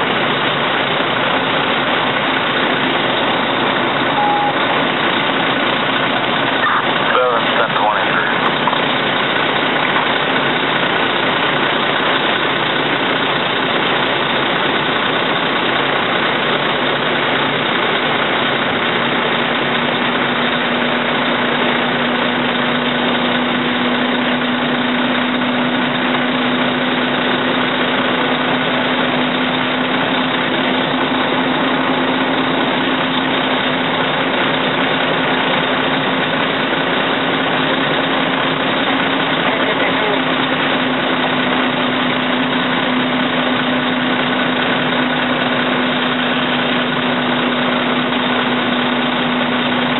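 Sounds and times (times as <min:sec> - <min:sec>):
fire engine motor running: 0:00.0 - 0:49.9
steady hum: 0:00.0 - 0:49.9.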